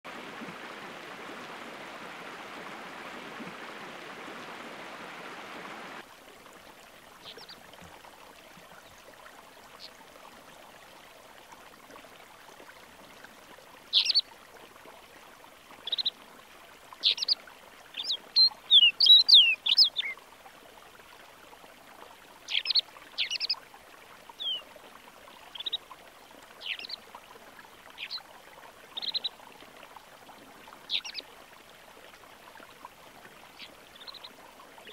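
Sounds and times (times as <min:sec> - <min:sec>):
stream running: 0:00.0 - 0:34.9.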